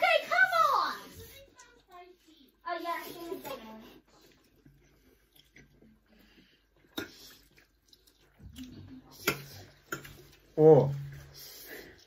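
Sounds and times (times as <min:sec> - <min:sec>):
people chewing noodles: 0:00.9 - 0:12.0.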